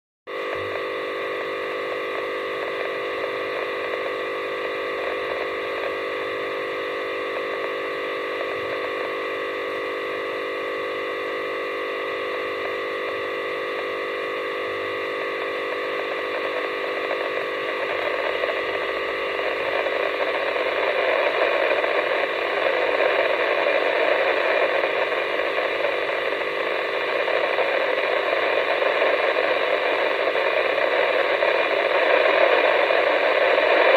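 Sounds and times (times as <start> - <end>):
electronic multi-tone buzz: 0.3 - 33.9
noisy radio hiss: 0.3 - 33.9.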